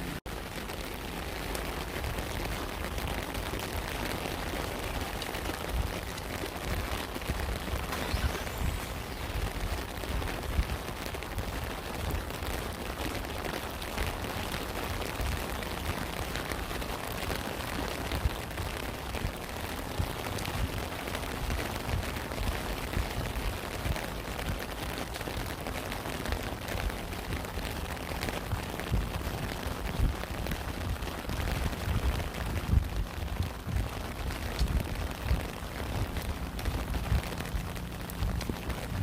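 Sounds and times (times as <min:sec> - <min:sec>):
raindrops ticking: 0:00.0 - 0:39.0
steady rain: 0:00.0 - 0:39.0.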